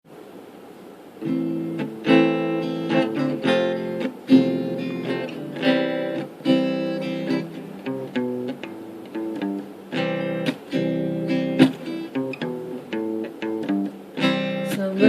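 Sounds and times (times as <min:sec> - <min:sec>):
acoustic guitar strumming chords: 0:01.2 - 0:15.0.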